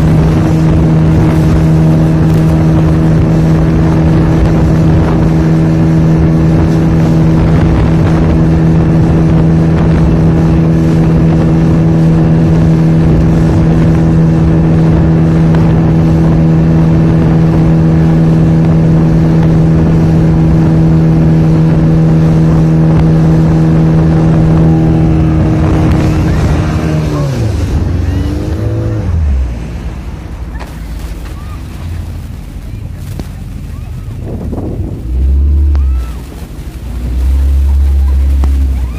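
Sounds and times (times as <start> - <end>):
motorboat engine: 0.0 - 38.9.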